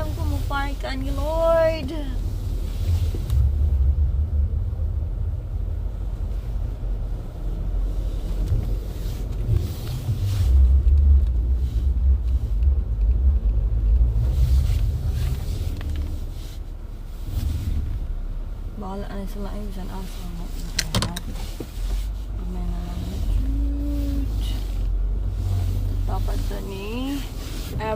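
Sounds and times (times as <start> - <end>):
car tyres rumbling on icy road: 0.0 - 27.9.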